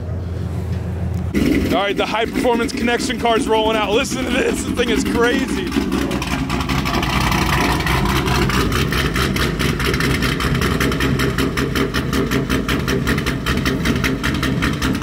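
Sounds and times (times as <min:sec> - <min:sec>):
car engine choppy idle: 0:01.1 - 0:15.0.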